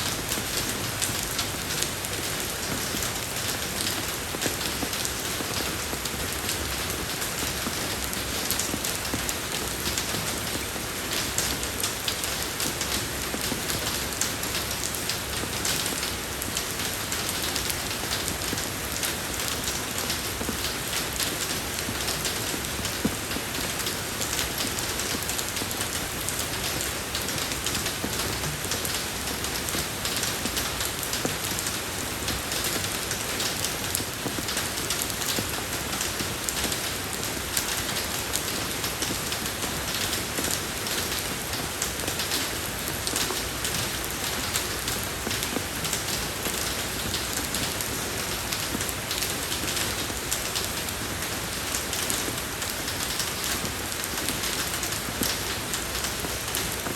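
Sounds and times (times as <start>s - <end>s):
rain falling on a road: 0.0s - 56.9s.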